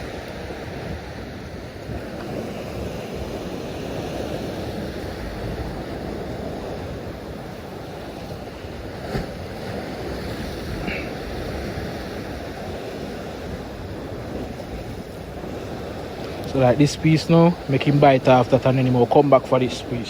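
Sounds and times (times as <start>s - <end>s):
sea waves on rocky shore: 0.0s - 20.0s.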